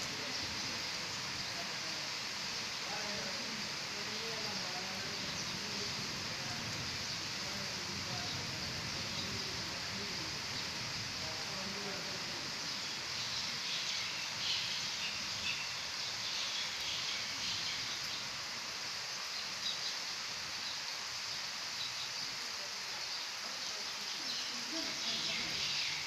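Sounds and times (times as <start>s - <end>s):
rain on wet paving: 0.0s - 26.0s.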